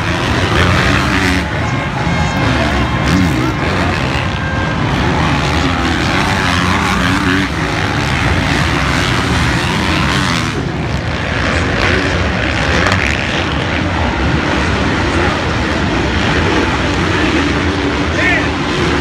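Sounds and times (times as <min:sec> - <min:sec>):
motocross bikes engines revving: 0:00.0 - 0:19.0.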